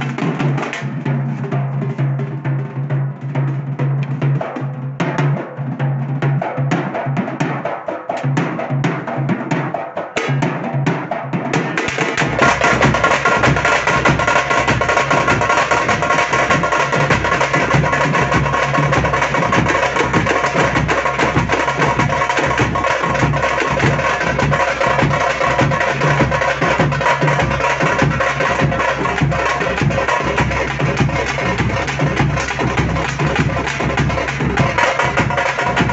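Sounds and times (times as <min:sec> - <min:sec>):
fast dense drumming: 0:00.0 - 0:35.9.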